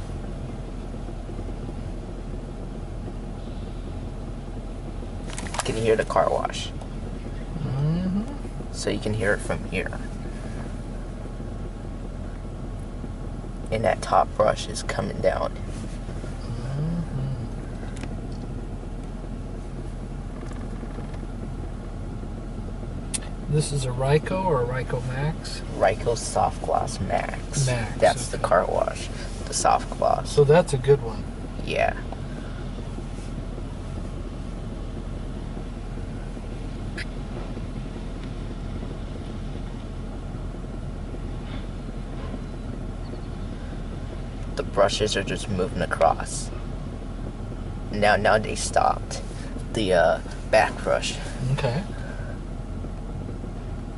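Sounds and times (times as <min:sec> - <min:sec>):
car wash brushes and machinery: 0:00.0 - 0:53.9.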